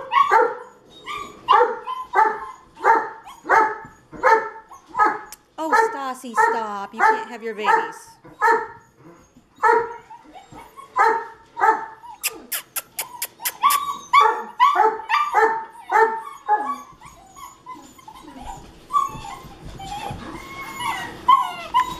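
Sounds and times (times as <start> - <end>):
puppies whining: 0.0 - 21.9
puppies yipping: 0.0 - 21.9.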